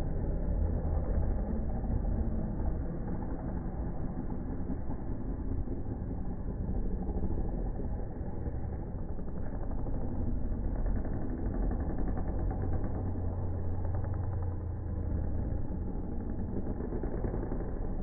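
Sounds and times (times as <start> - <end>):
motocross engines droning: 0.0 - 18.0.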